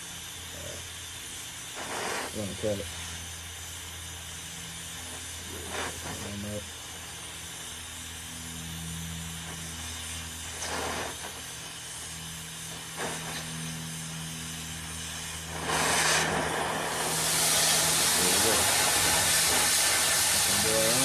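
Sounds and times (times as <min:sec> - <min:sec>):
cutting torch hissing: 0:00.0 - 0:21.0
steady low hum: 0:00.0 - 0:21.0.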